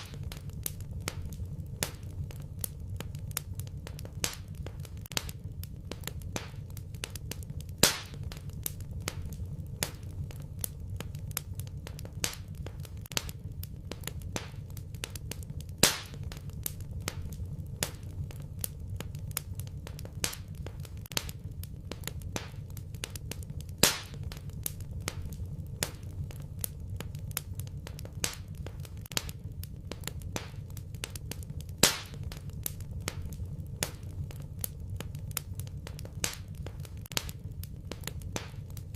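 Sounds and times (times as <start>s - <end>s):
loud fire pops: 0.0s - 38.9s
wood fire crackling: 0.0s - 38.9s.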